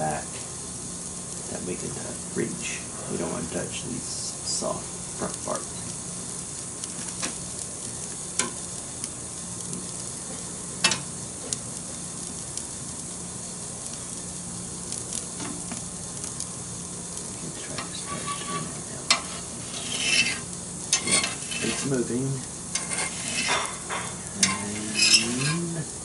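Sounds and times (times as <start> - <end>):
gas burner flame hissing: 0.0 - 26.0.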